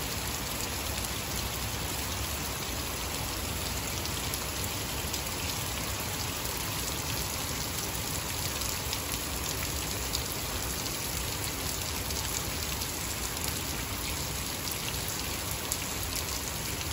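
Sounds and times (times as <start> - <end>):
heavy rain on wet lawn: 0.0 - 16.9
rain drops splashing in puddles: 0.0 - 16.9.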